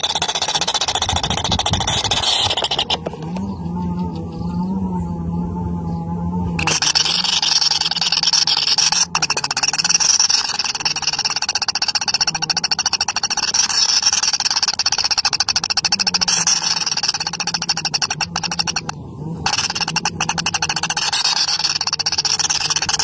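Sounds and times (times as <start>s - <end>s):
nestlings begging calls: 0.0s - 23.0s.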